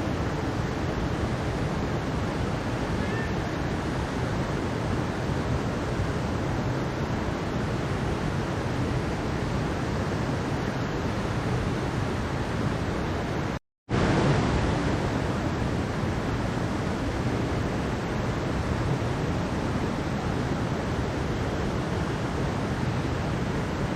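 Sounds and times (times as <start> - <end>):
mountain stream rushing: 0.0 - 23.9.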